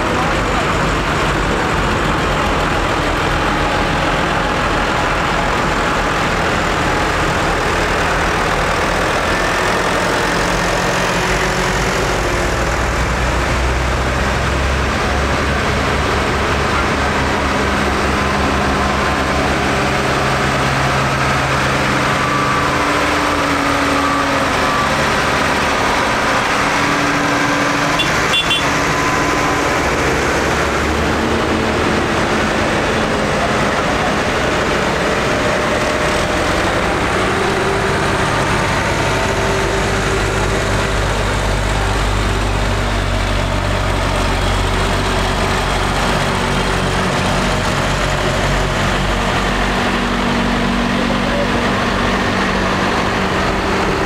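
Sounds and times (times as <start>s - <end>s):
tractor engines driving past: 0.0s - 54.0s.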